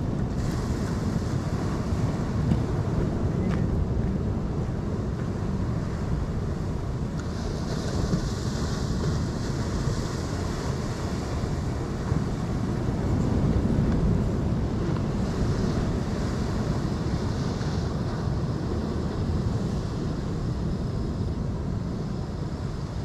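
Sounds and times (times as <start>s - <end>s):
ocean surf breaking on rocks: 0.0s - 23.0s
wind buffeting microphone: 0.0s - 23.0s.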